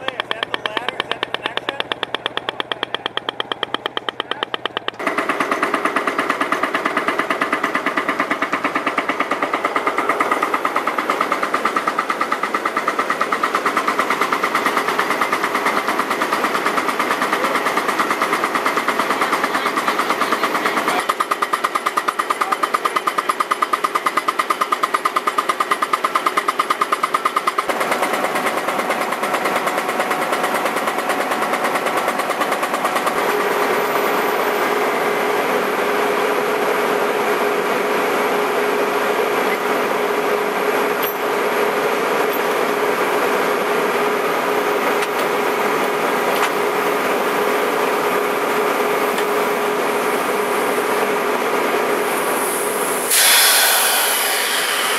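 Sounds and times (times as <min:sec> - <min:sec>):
pneumatic impactor hammering: 0:00.0 - 0:35.7, 0:40.8 - 0:42.8, 0:44.8 - 0:50.9, 0:52.1 - 0:54.9
drill engine running: 0:00.0 - 0:54.9.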